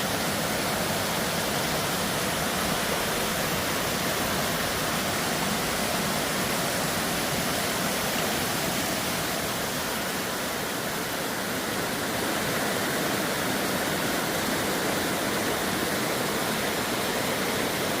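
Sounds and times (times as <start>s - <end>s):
stream water rushing over rocks: 0.0s - 18.0s.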